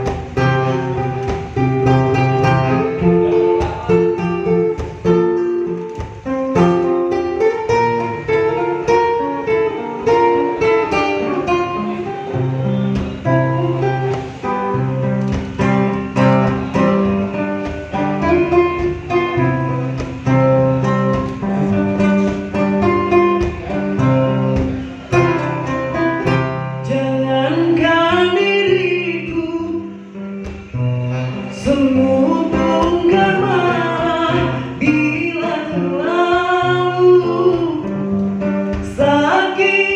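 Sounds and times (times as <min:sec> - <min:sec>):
acoustic guitar melody: 0:00.0 - 0:39.9.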